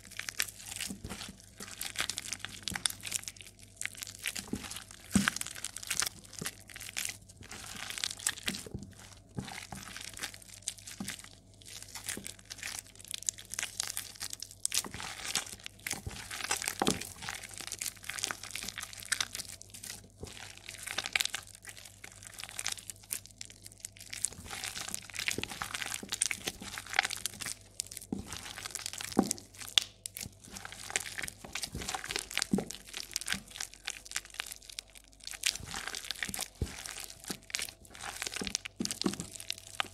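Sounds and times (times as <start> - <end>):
hands squeezing wet soap: 0.0 - 39.9.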